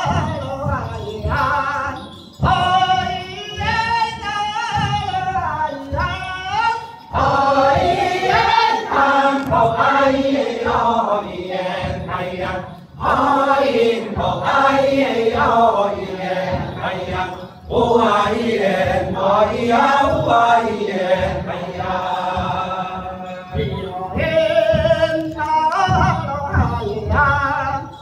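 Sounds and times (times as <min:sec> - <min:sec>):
mixed choir singing folk song: 0:00.0 - 0:28.0.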